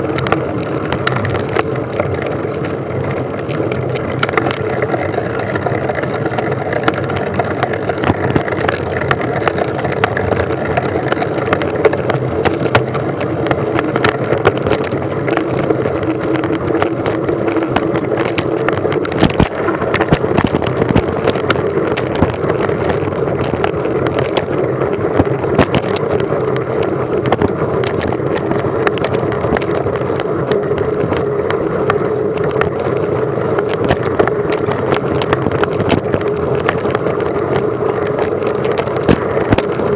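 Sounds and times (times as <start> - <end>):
small rattles and clicks: 0.0 - 39.9
vehicle running on rough track: 0.0 - 39.9
wind on microphone: 0.0 - 39.9.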